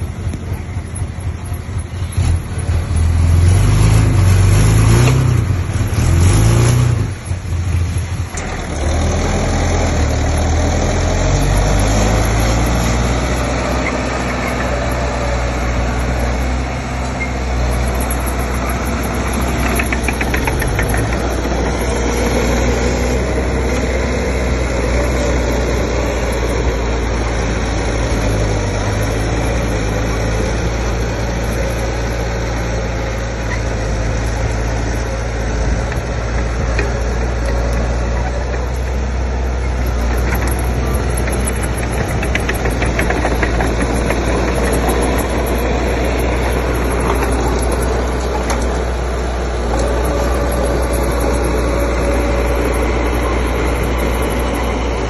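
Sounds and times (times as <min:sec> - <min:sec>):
heavy diesel engine revving: 0:00.0 - 0:55.0.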